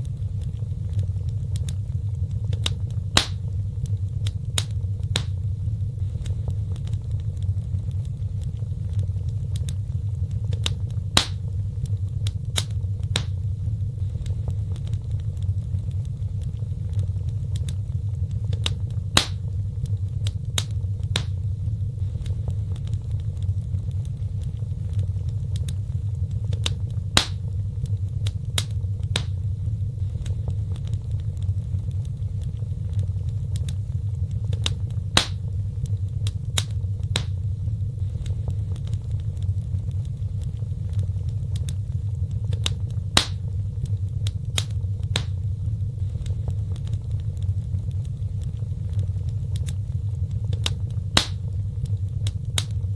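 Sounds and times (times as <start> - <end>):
burning wood crackling and popping: 0.0 - 52.9
flames rumbling: 0.0 - 52.9.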